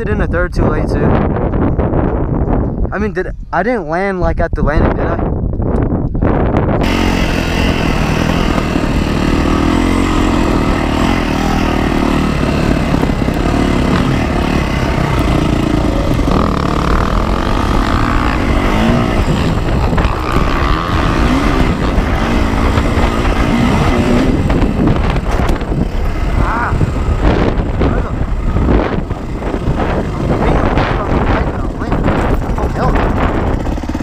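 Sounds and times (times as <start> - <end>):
dirt bike engine revving: 6.8 - 34.0.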